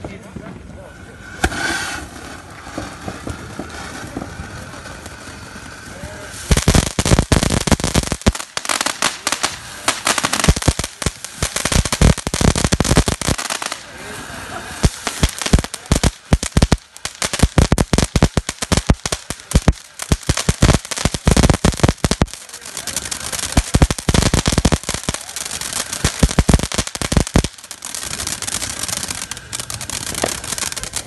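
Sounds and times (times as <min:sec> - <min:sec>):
firework crackling pops: 0:01.2 - 0:31.0
hiss of sparks: 0:01.2 - 0:31.0.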